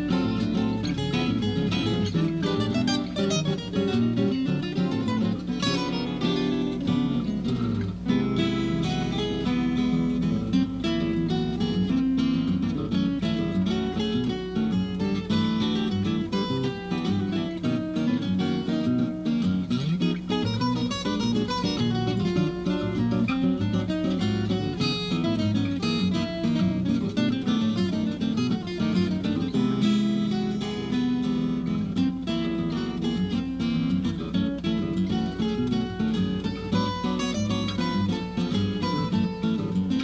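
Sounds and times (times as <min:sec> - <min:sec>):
acoustic guitars playing: 0:00.0 - 0:40.0.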